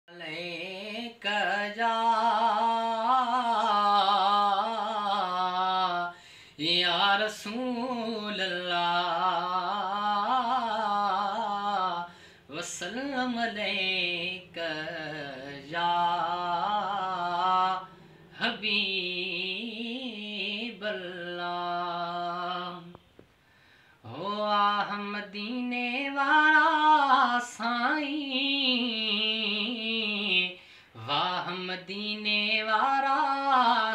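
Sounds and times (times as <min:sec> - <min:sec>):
man singing unaccompanied: 0:00.1 - 0:23.2, 0:24.0 - 0:33.9.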